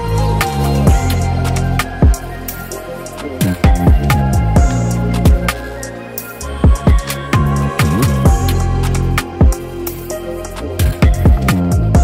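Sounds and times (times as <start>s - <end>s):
music with heavy kick drum: 0.0s - 2.4s, 3.1s - 5.9s, 6.6s - 12.0s.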